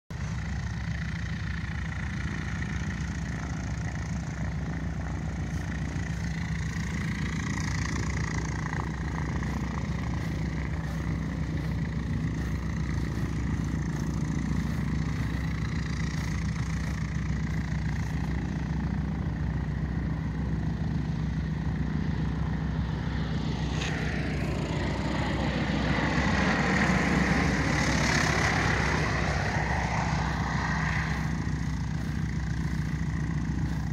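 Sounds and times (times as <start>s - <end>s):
propeller airplane engine running: 0.1s - 33.9s.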